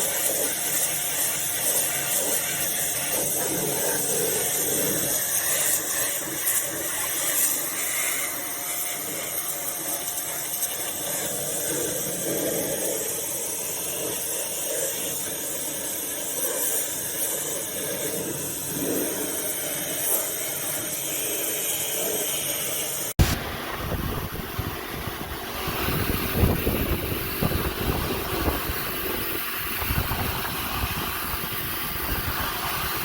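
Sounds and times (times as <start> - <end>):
pressure washer spraying: 0.0 - 33.0.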